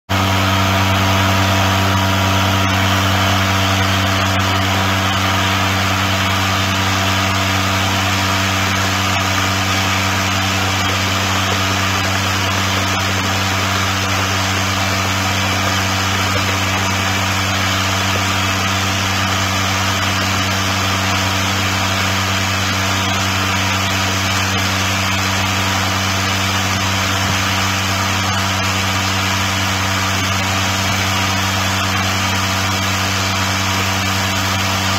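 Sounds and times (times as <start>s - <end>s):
vibrating bowl hum: 0.1s - 34.9s.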